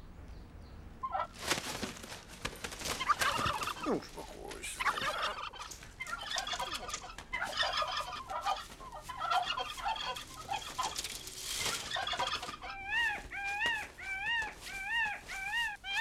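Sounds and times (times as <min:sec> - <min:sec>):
poultry clucking and gobbling: 0:01.0 - 0:16.0.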